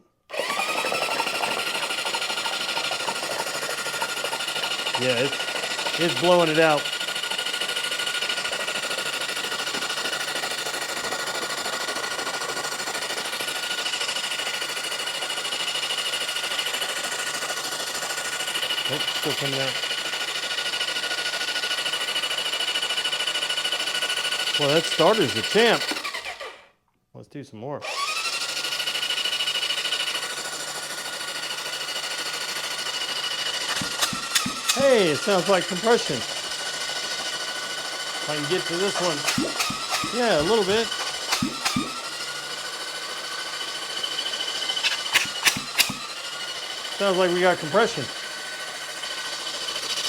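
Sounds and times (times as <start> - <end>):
starter motor cranking engine: 0.0 - 26.7, 27.8 - 50.0.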